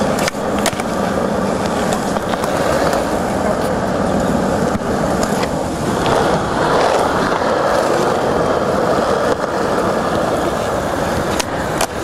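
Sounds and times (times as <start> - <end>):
skateboard wheels rolling: 0.0 - 12.0.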